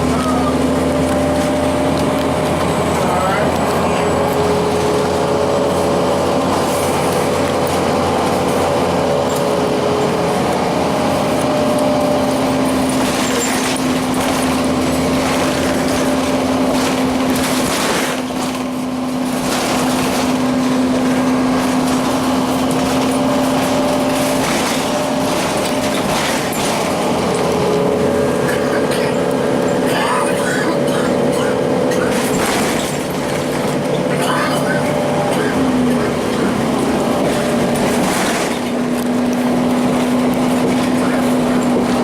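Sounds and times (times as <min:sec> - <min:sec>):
bus engine running with whine: 0:00.0 - 0:42.0.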